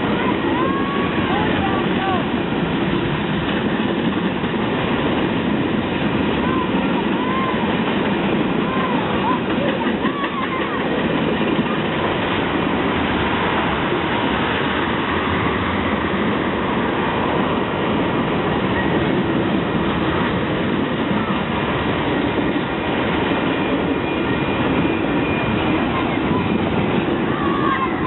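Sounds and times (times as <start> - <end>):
train wheels rolling on rails: 0.0 - 28.0.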